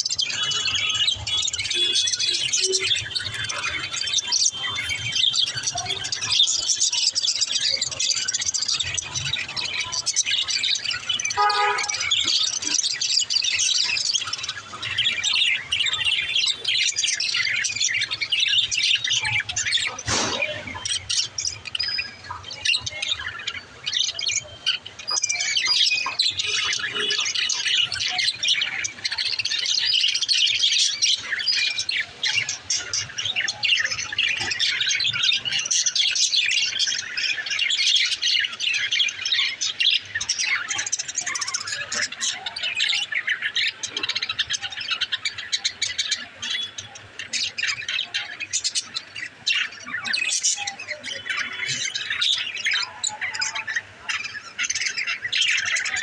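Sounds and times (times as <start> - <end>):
budgerigars chirping: 0.0 - 56.0.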